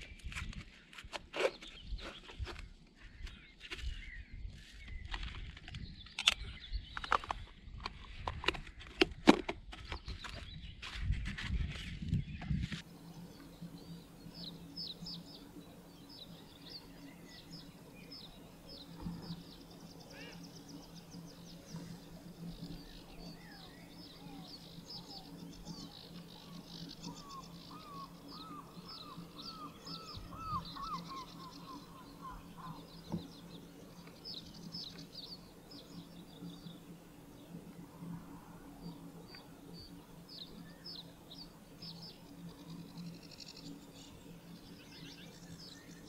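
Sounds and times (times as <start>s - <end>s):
lower looping bird notes: 0.0s - 9.0s, 12.1s - 46.0s.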